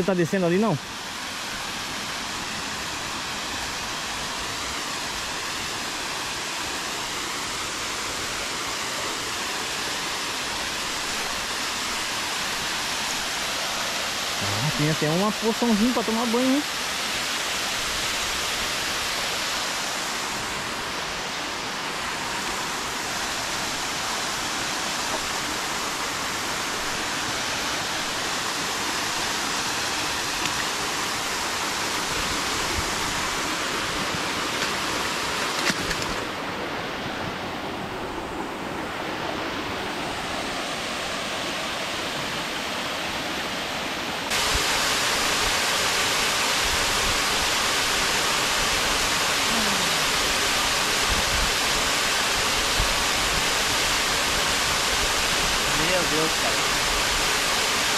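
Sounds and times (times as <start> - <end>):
waterfall pouring into pool: 0.1 - 20.8, 21.9 - 35.4, 44.3 - 57.9.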